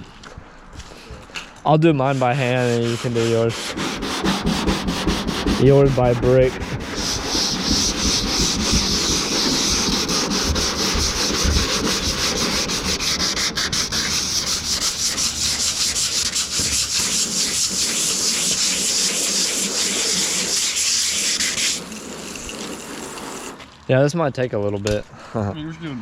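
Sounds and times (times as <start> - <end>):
sandpaper scraping paint: 1.9 - 23.7.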